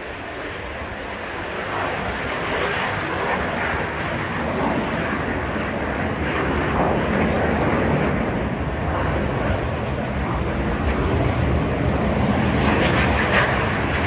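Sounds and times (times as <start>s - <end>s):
jet engines taking off: 0.0s - 14.0s.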